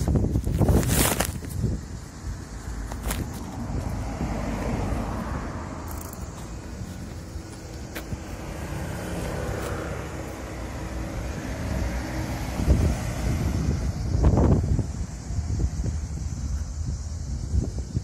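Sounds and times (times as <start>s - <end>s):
wind buffeting microphone: 0.0s - 18.0s
cars passing: 1.8s - 17.6s.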